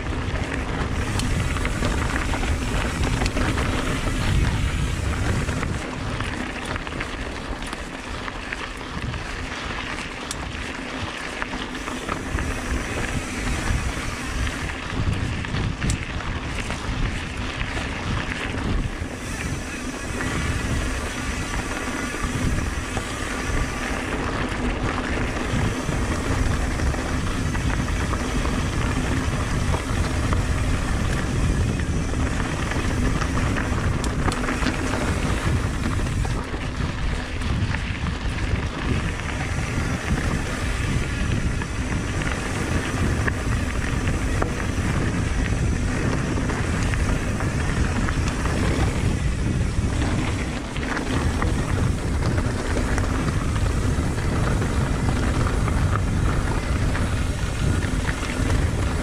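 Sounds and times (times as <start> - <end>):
bike tyres rattling on rocks: 0.0 - 59.0
wind buffeting microphone: 0.0 - 59.0.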